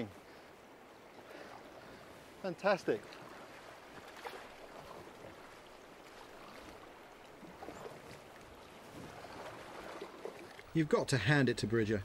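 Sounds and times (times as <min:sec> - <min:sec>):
river water lapping: 0:00.0 - 0:11.0.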